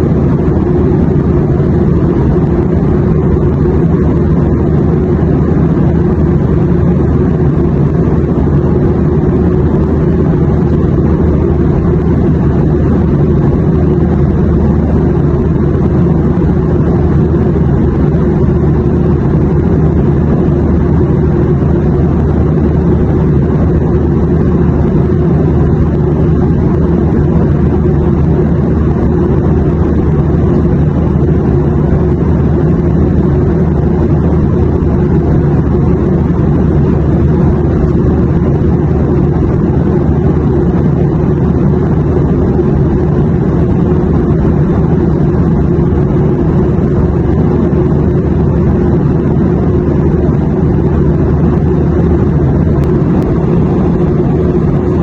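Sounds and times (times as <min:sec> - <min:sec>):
airplane rumble: 0:00.0 - 0:55.0.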